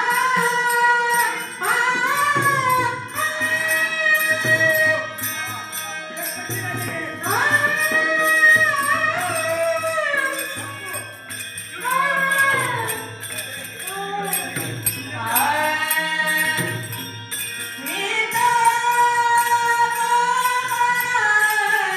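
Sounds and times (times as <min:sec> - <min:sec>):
jingling metal percussion: 0:00.0 - 0:21.9.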